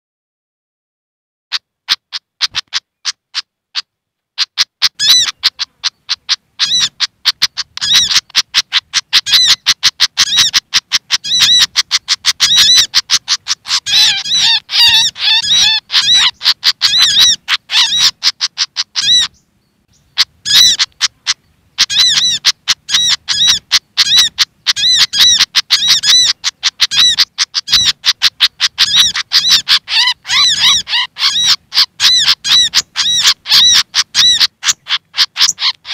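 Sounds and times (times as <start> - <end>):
sharp high bird calls: 1.5 - 35.9
birds chattering: 4.4 - 35.9.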